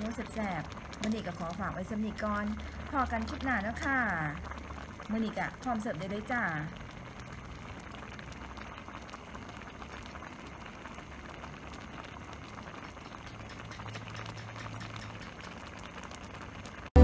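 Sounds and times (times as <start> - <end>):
curry bubbling and popping: 0.0 - 17.0.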